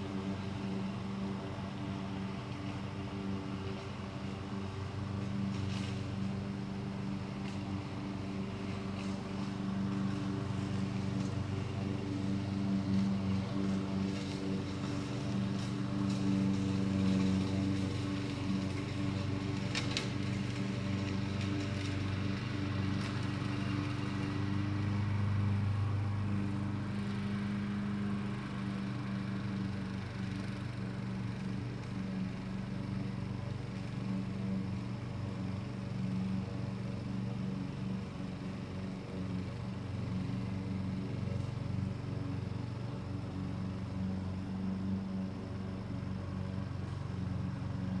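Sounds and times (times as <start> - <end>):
lawn mower engines droning: 0.0 - 48.0.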